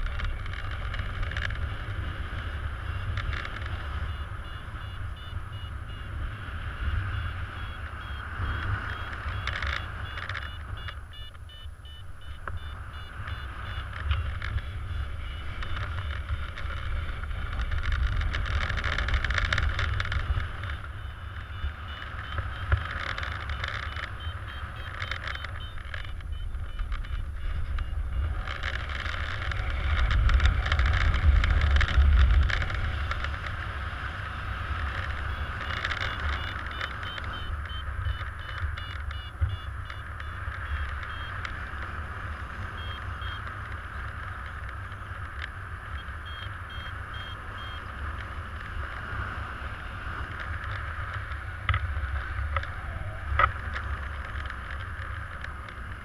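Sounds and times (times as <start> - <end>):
variometer beeping: 0.0 - 55.8
wind rushing over microphone: 0.0 - 56.0.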